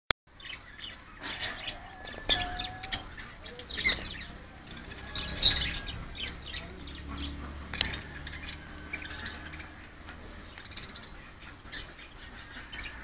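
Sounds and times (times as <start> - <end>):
budgerigars chirping: 0.3 - 13.0.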